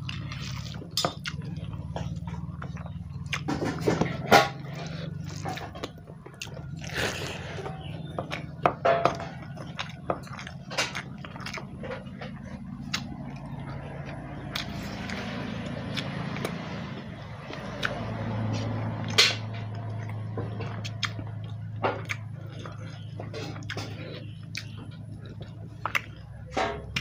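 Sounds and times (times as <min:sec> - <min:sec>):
wet chewing and mouth smacks: 0:00.0 - 0:03.7, 0:04.5 - 0:16.7, 0:17.5 - 0:27.0
steady low hum: 0:00.0 - 0:27.0.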